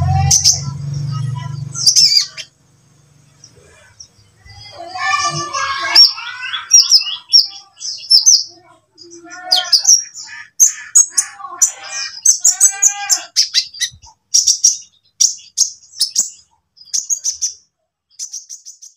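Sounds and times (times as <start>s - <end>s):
bird chirping and singing: 0.0s - 18.9s.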